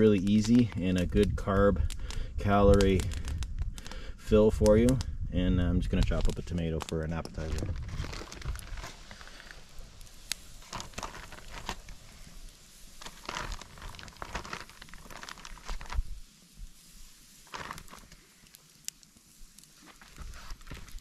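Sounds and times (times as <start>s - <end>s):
plastic packaging crinkling: 0.0s - 4.0s, 5.7s - 16.3s, 17.4s - 21.0s
small clicks and crackles: 0.0s - 21.0s.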